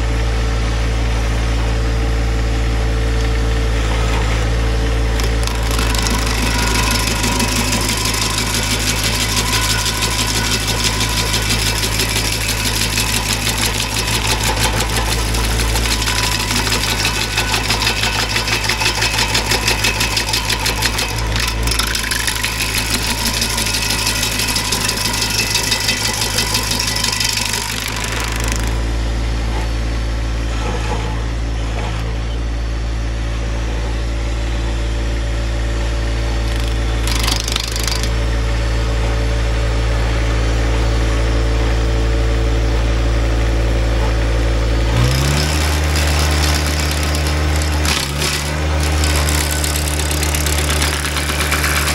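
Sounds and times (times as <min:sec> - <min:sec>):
tractor engine running: 0:00.0 - 0:51.9
stump grinder grinding wood: 0:02.8 - 0:32.1, 0:35.8 - 0:51.9.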